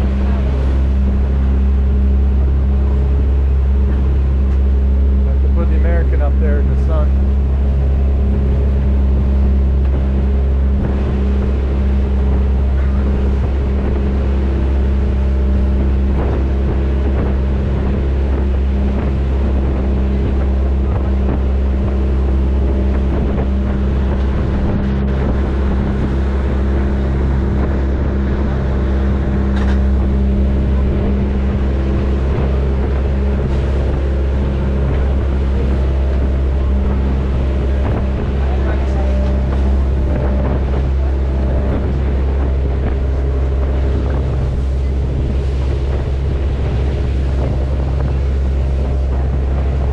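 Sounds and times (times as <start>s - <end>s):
boat engine droning: 0.0s - 49.9s
rushing water: 0.0s - 49.9s
wind on microphone: 0.0s - 49.9s.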